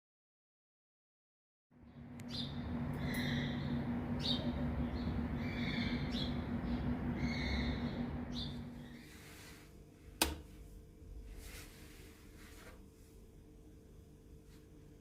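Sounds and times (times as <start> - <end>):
steady hiss and hum: 1.8 - 15.0.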